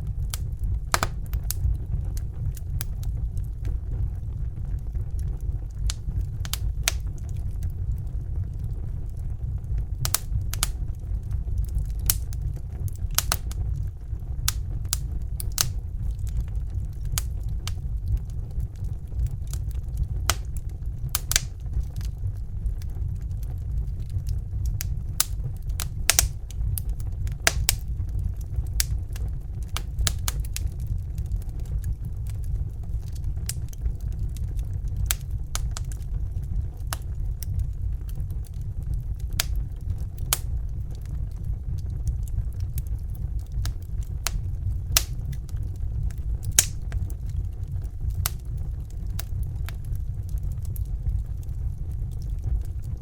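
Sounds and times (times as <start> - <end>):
fire crackling: 0.0 - 53.0
low rumble: 0.0 - 53.0.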